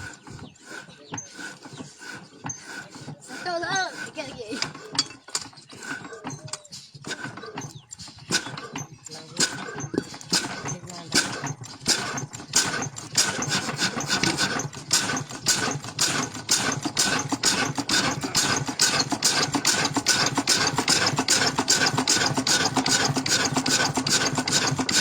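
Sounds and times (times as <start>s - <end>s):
water pump engine knocking: 0.0s - 25.0s.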